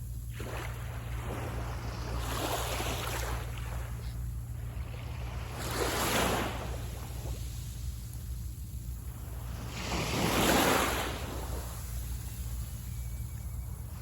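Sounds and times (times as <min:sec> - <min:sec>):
wind rumble on microphone: 0:00.0 - 0:14.0
small waves breaking on sand: 0:00.3 - 0:14.0.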